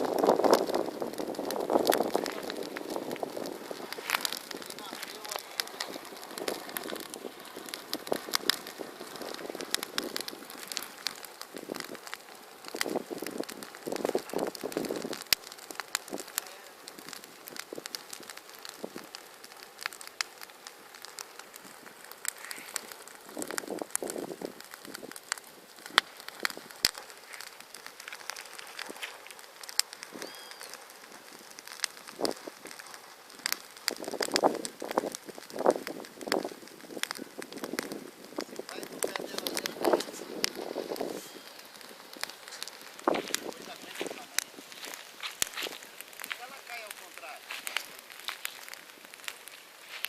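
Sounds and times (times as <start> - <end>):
bonfire crackling and popping: 0.0 - 50.0
flames rushing: 0.0 - 50.0.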